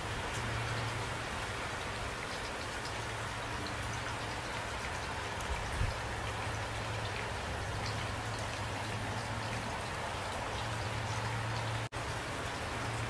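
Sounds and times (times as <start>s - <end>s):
raindrops ticking close by: 0.0s - 13.0s
steady rain hiss: 0.0s - 13.0s.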